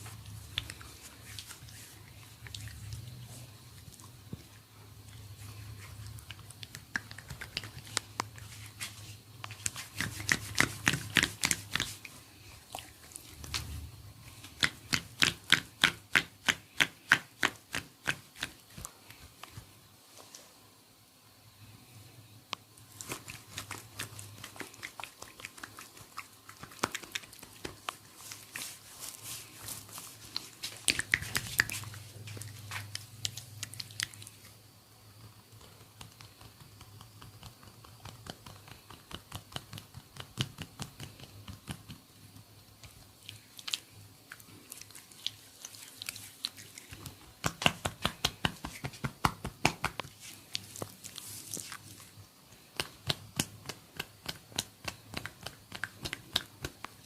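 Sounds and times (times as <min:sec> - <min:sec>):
hands massaging oily hair: 0:00.0 - 0:20.4, 0:22.9 - 0:34.6, 0:43.2 - 0:57.0.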